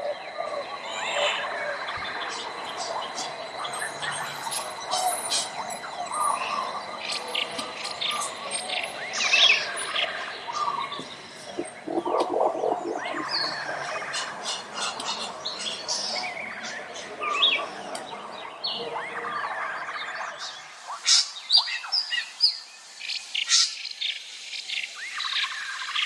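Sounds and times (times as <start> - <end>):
songbirds chirping and trilling: 0.0 - 26.0.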